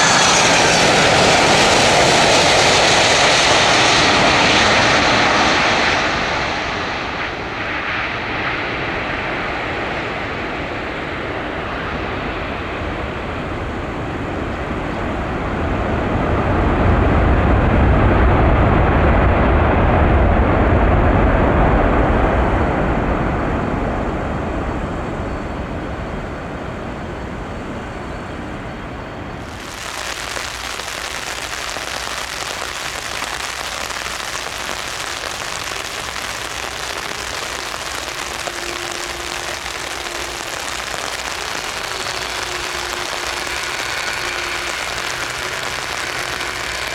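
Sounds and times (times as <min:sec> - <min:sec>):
high hiss of jet engines: 0:00.0 - 0:46.9
jet engines rumbling: 0:00.0 - 0:46.9.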